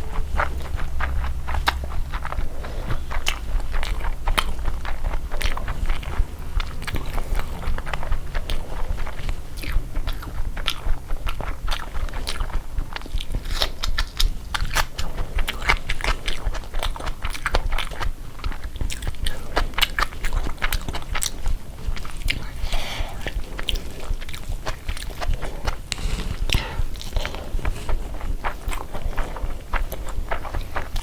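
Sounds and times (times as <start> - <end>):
chewing and mouth clicks: 0.0 - 31.0.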